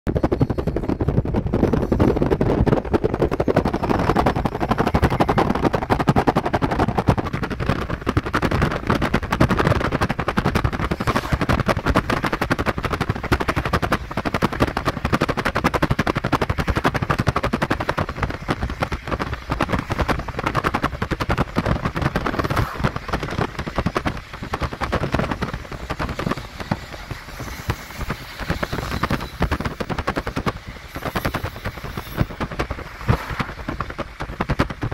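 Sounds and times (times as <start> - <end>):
freight train wheels clattering: 0.1 - 34.9.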